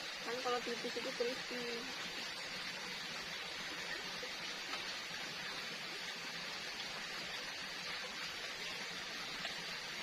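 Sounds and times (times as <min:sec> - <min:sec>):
forest ambience hiss: 0:00.0 - 0:10.0.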